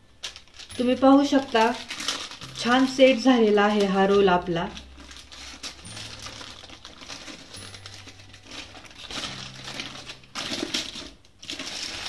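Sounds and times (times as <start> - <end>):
plastic sheet crinkling: 0.0 - 12.0.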